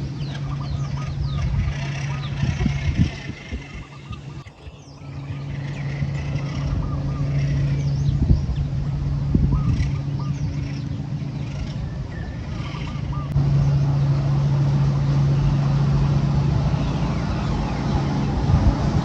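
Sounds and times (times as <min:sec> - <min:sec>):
small birds chirping: 0:00.0 - 0:14.6, 0:15.2 - 0:18.6
rc truck motor hum: 0:00.0 - 0:19.0.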